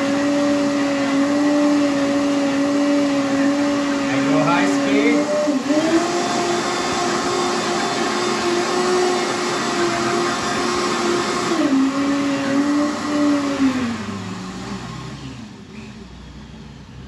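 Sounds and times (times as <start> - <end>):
blender motor whining: 0.0 - 16.0.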